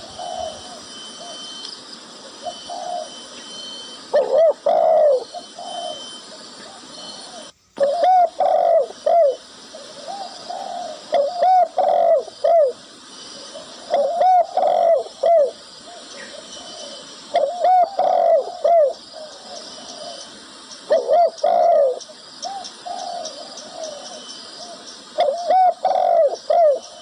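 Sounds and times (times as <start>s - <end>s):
dove cooing: 0.0s - 1.6s, 2.2s - 27.0s.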